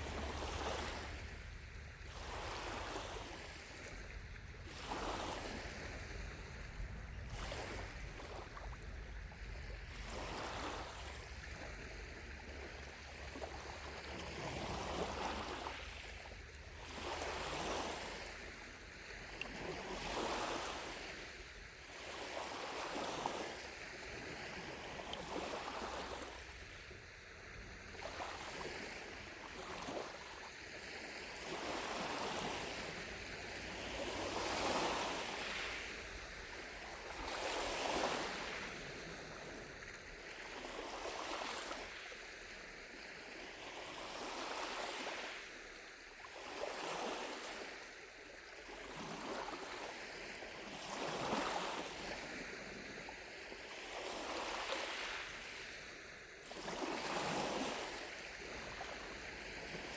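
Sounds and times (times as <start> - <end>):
lake waves lapping on shore: 0.0 - 59.9.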